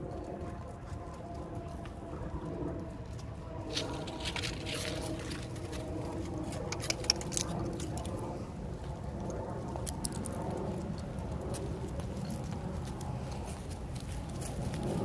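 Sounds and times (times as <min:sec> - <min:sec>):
dog paws pattering: 0:00.0 - 0:15.0.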